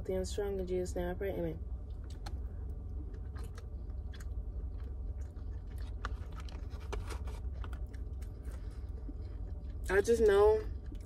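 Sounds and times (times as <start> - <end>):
steady low hum: 0.0 - 11.0
chewing crunchy fried food: 1.8 - 11.0.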